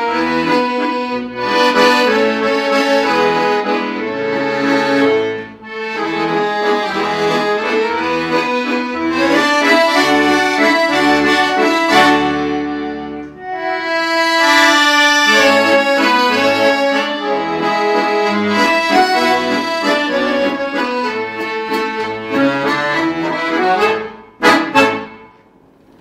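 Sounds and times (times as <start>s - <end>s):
accordion music: 0.0s - 25.8s.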